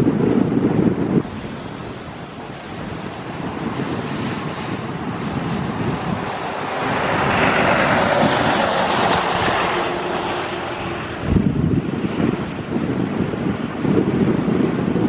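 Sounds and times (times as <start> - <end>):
passing vehicle rushing: 1.1 - 14.5.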